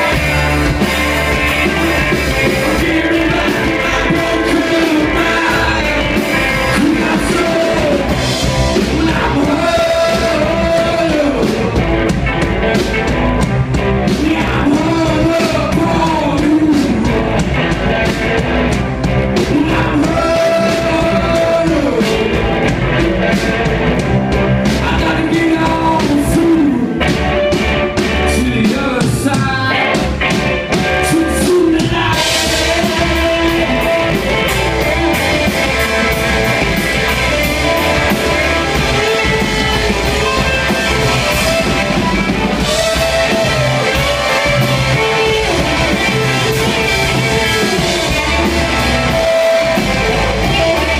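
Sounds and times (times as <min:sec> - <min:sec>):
person singing lead vocal: 0:00.0 - 0:12.9, 0:14.0 - 0:27.2, 0:28.0 - 0:50.9
live rock band playing: 0:00.0 - 0:50.9.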